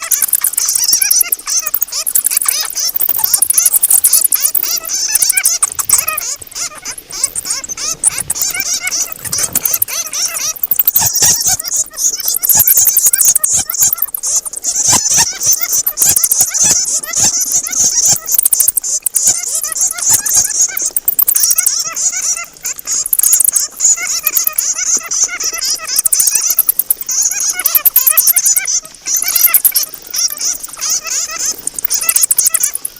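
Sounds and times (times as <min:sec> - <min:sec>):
bats squeaking and chattering: 0:00.0 - 0:32.9.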